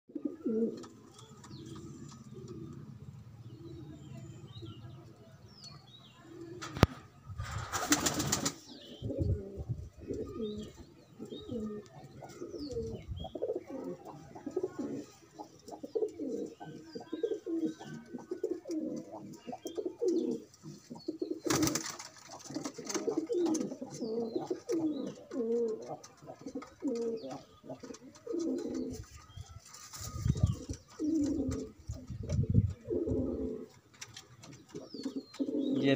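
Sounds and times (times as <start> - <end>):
pigeons cooing: 0.1 - 3.9, 7.8 - 35.9.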